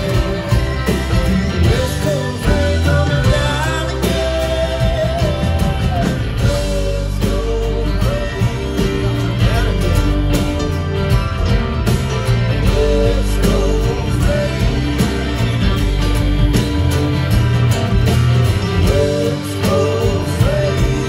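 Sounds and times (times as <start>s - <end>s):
person singing: 0.0s - 10.7s, 12.4s - 16.5s, 18.7s - 21.0s
acoustic guitar: 0.0s - 21.0s
bass guitar: 0.0s - 21.0s
electric guitar: 0.0s - 21.0s.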